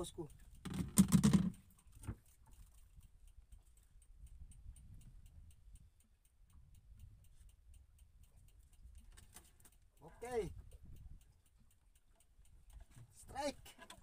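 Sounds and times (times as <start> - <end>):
faint even ticking: 0.0 - 14.0.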